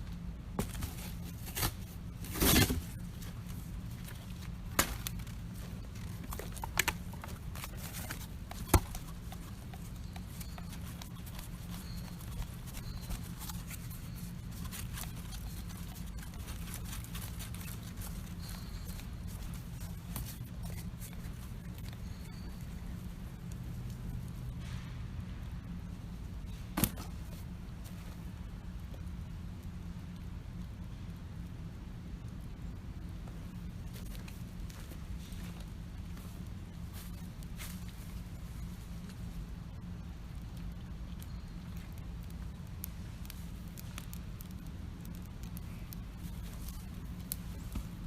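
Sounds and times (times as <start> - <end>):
campfire crackling: 0.0 - 48.0
low background rumble: 0.0 - 48.0
sharp pops and snaps of fire: 0.2 - 48.0.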